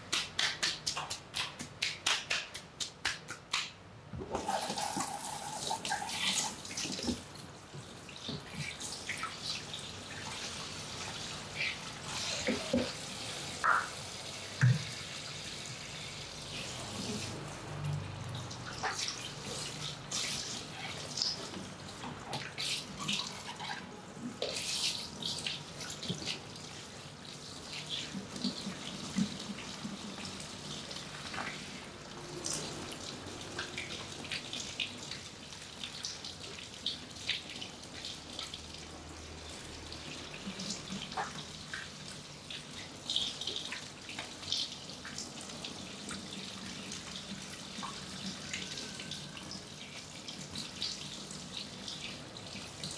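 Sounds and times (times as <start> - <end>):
water splashing and dripping: 0.0 - 15.2, 16.2 - 52.9.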